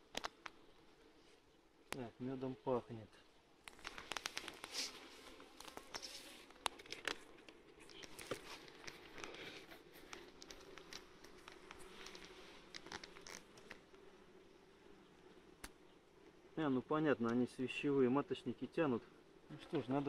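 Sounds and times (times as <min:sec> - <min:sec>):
honeybees humming: 0:00.0 - 0:20.0.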